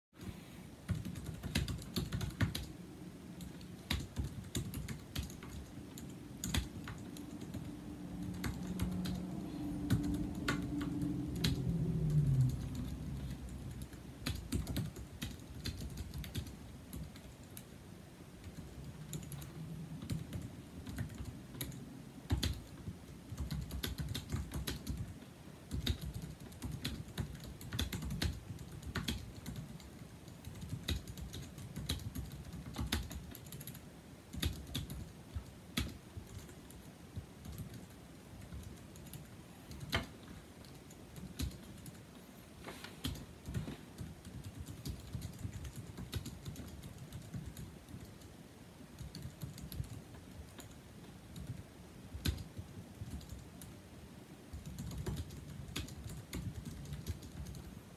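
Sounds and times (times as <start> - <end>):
keyboard typing clicks: 0.9 - 2.7, 3.4 - 17.7, 18.4 - 25.1, 25.7 - 42.0, 43.0 - 48.2, 49.0 - 53.7, 54.5 - 57.7.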